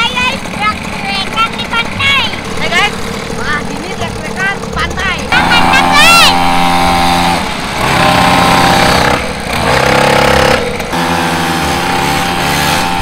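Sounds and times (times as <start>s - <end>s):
small engines running: 0.0s - 13.0s.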